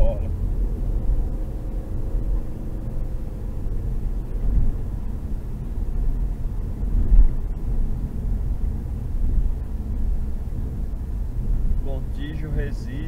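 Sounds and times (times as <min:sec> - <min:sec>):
car cabin engine and tyre rumble: 0:00.0 - 0:13.0.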